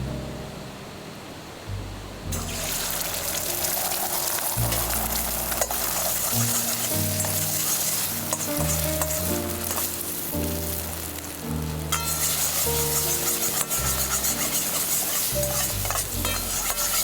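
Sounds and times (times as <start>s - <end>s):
background music with low melody: 0.0s - 17.0s
food sizzling in a frying pan: 2.3s - 17.0s.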